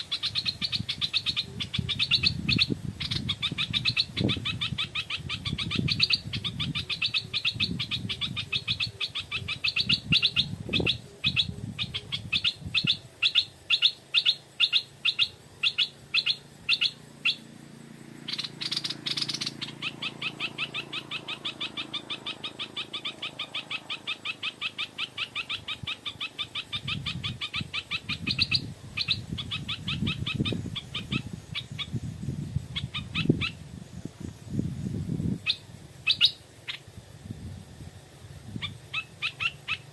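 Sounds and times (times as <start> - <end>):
bird chattering: 0.0 - 17.6, 18.2 - 33.6, 35.4 - 36.9, 38.5 - 39.9.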